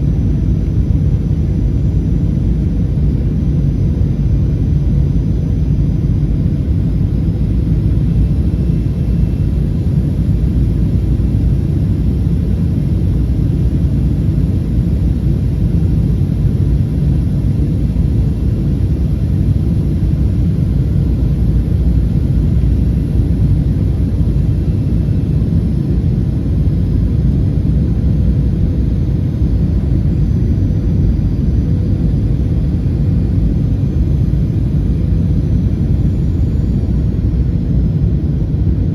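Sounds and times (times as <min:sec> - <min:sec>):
aircraft cabin rumble: 0:00.0 - 0:38.9
faint steady hum: 0:00.0 - 0:38.9.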